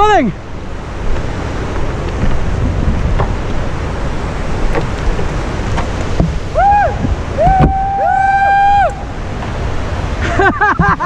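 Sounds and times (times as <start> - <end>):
whitewater river rushing: 0.0 - 11.0
wind rumbling on microphone: 0.0 - 11.0.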